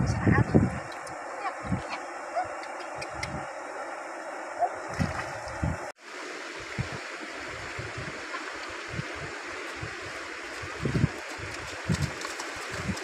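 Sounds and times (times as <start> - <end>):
river flowing over stones: 0.8 - 13.0.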